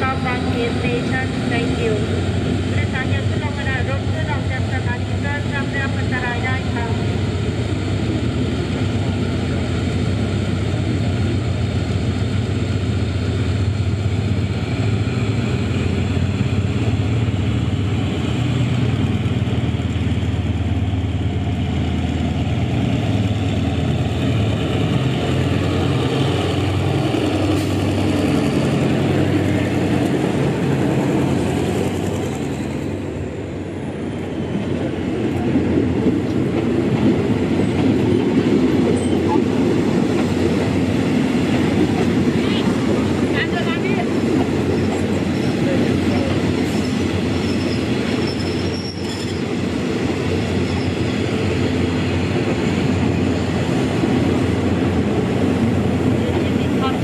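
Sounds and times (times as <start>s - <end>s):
train diesel engine drone: 0.0s - 57.0s.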